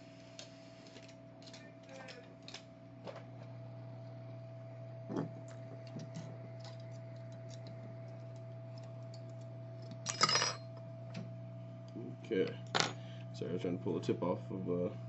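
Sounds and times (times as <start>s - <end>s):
hot-air gun humming: 0.0s - 15.0s.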